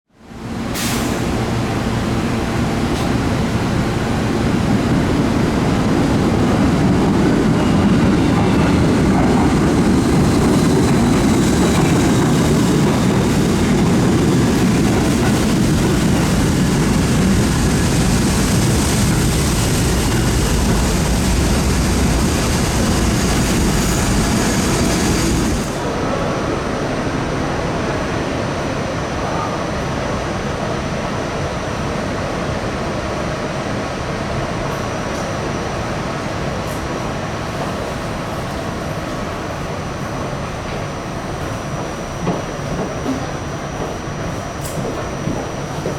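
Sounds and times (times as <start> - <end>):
subway train rumbling on rails: 0.1 - 45.9.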